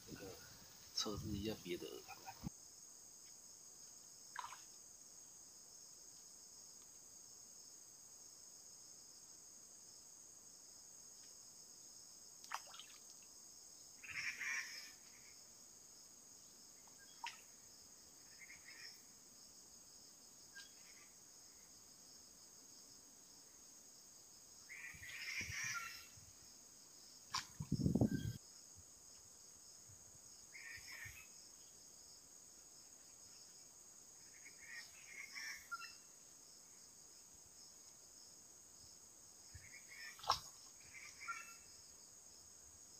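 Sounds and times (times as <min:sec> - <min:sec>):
insects chirring: 0:00.0 - 0:42.9.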